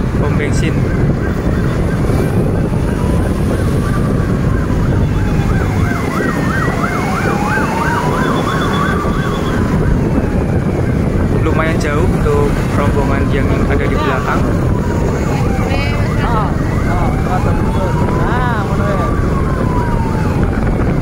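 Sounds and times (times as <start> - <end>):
siren wail: 0.0 - 21.0
vehicle siren warbling: 0.0 - 21.0
low rumble: 0.8 - 21.0.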